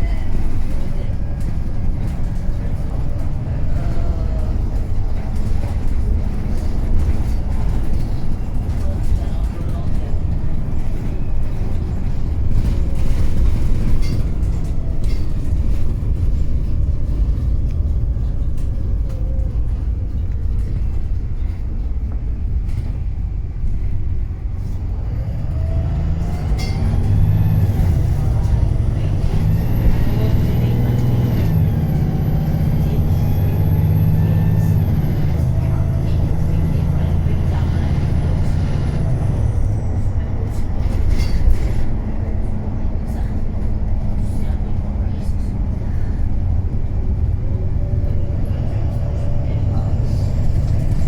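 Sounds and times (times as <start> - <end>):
bus engine rumbling: 0.0 - 51.0.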